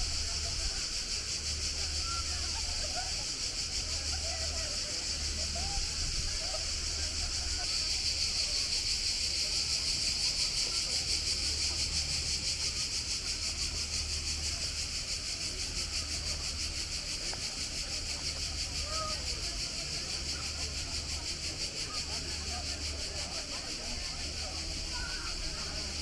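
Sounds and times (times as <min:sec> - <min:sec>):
faint voices: 0:00.0 - 0:26.0.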